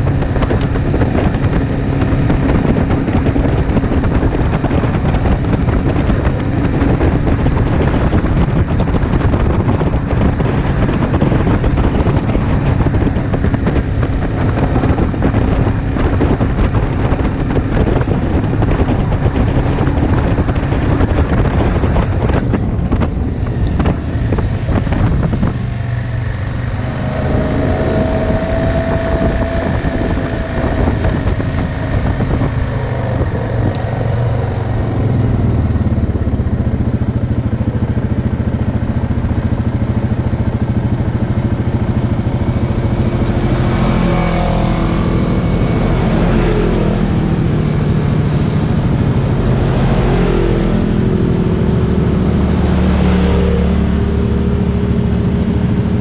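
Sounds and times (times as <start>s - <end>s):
atv engine running: 0.0s - 56.0s
wind rushing over microphone: 0.0s - 56.0s.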